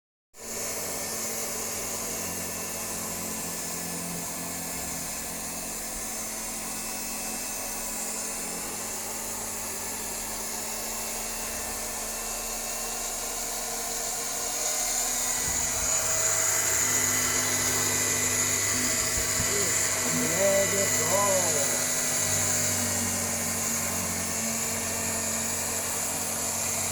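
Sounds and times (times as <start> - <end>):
high-pitched motor whine: 0.4 - 26.9.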